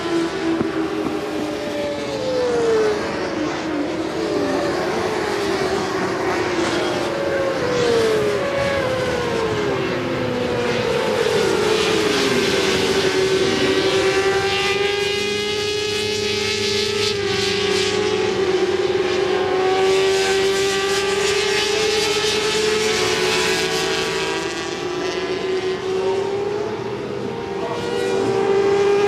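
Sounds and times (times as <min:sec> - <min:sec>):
racing motorcycles passing: 0:00.0 - 0:29.0.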